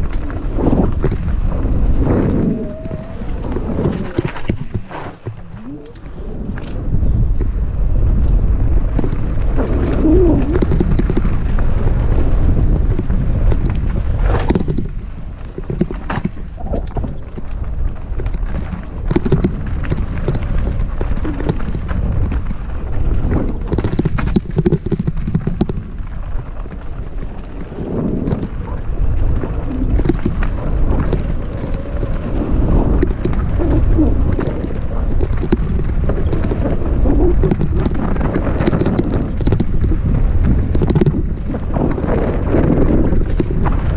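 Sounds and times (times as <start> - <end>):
knocks and rattles over rough ground: 0.0 - 43.9
wind buffeting microphone: 0.0 - 43.9.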